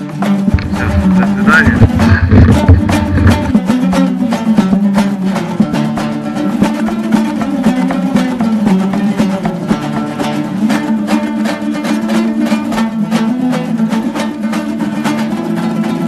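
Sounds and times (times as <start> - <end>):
plucked strings music: 0.0 - 16.0
quick steady beat: 0.0 - 16.0.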